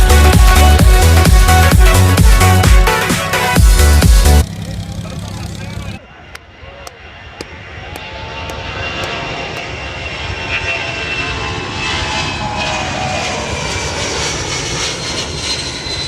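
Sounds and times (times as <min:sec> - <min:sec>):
airplane engine passing: 0:00.0 - 0:16.0.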